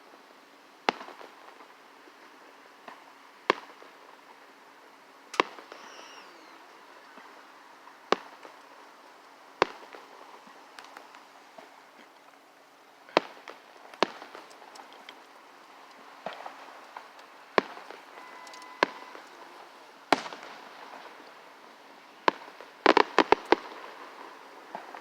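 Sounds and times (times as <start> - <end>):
small fireworks pops: 0.8 - 4.5, 5.2 - 25.0
fireworks bangs: 0.8 - 4.6, 5.2 - 25.0.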